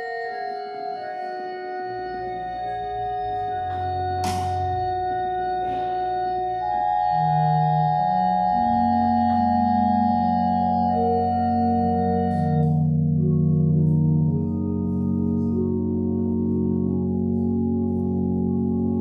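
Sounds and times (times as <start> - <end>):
organ playing held chords: 0.0 - 19.0
deep bass line: 2.4 - 19.0.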